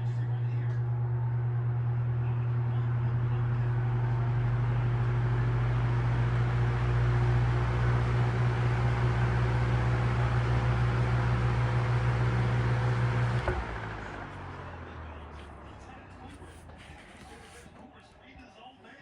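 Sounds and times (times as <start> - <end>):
electric fan running: 0.0 - 17.8.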